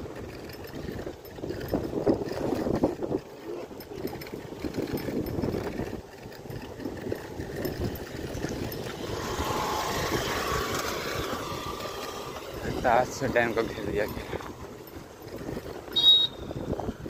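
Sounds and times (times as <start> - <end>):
motorcycle engine approaching: 0.0 - 17.0
wind buffeting the microphone: 0.0 - 17.0.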